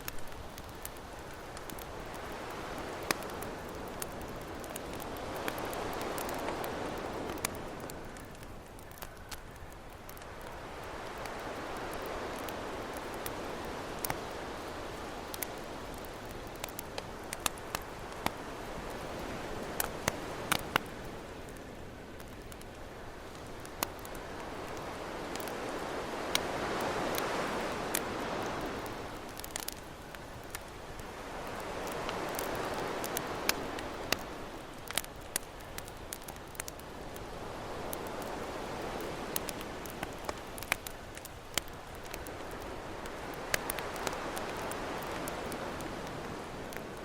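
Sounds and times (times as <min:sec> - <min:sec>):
ocean waves: 0:00.0 - 0:09.1, 0:10.1 - 0:21.8, 0:22.8 - 0:47.0
campfire crackling and popping: 0:00.0 - 0:47.0.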